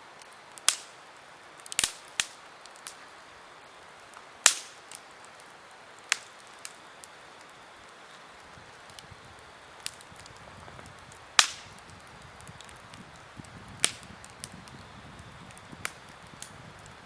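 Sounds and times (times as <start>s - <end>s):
burning wood popping: 0.0s - 17.0s
hiss of flames: 0.0s - 17.0s.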